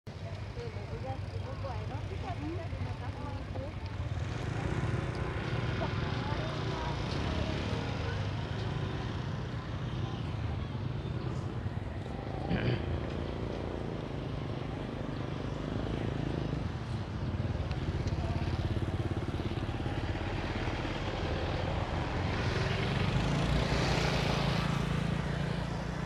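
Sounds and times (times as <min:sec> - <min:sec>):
motorcycle engines running: 0:00.1 - 0:26.0.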